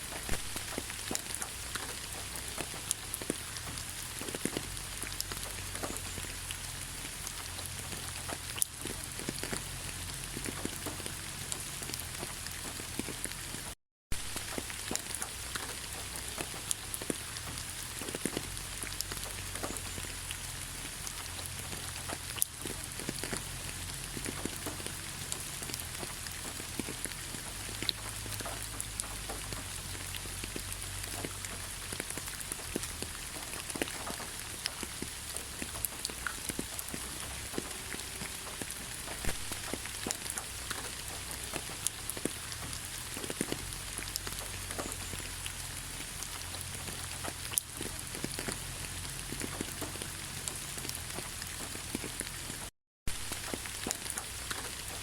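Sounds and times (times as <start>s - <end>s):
rain hiss: 0.0s - 55.0s
raindrops ticking: 0.0s - 55.0s.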